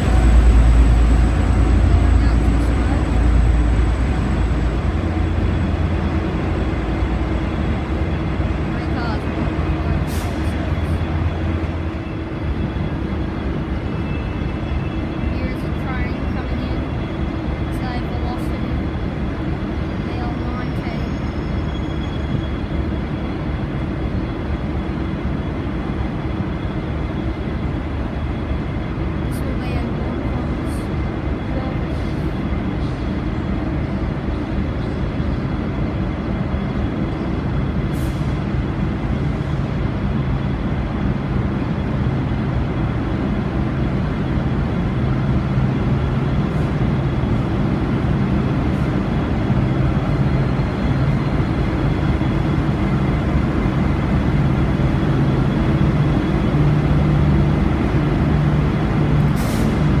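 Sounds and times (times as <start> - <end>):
diesel engine drone: 0.0 - 60.0
train rail noise: 0.0 - 60.0.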